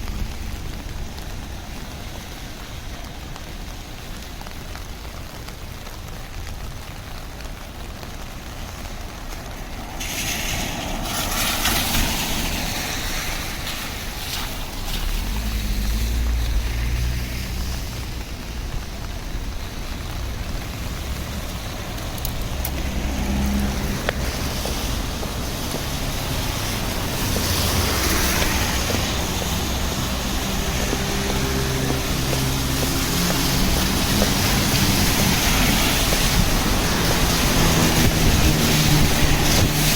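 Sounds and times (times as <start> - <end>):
cars passing on wet street: 0.0 - 39.9
rain hiss: 0.0 - 39.9.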